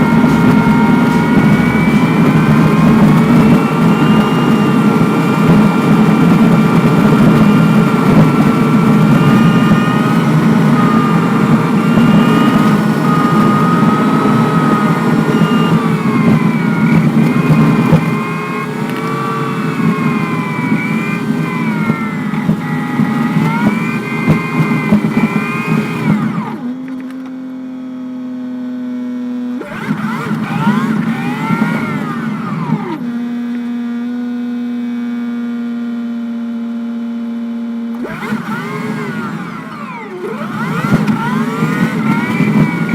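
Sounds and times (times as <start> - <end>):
bus engine running: 0.0 - 27.9, 29.4 - 42.9.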